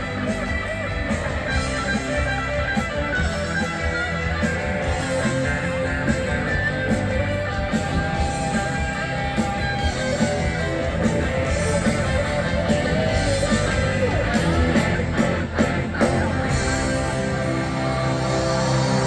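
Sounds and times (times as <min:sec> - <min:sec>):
drums with steady beat: 0:00.0 - 0:19.0
electric guitars: 0:00.0 - 0:19.0.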